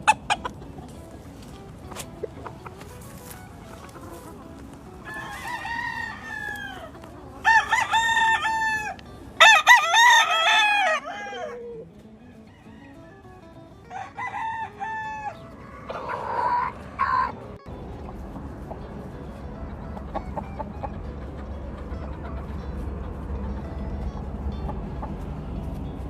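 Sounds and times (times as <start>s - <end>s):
roosters crowing: 0.0s - 25.9s.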